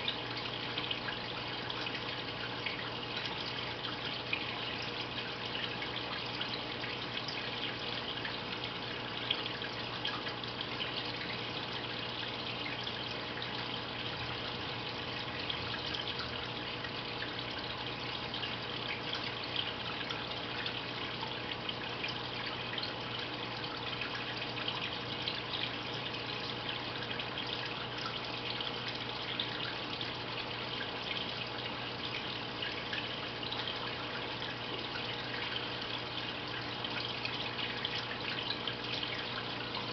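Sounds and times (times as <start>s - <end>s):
filter water trickling and splashing: 0.0s - 39.9s
low steady hum: 0.0s - 39.9s
small water drips: 0.0s - 39.9s.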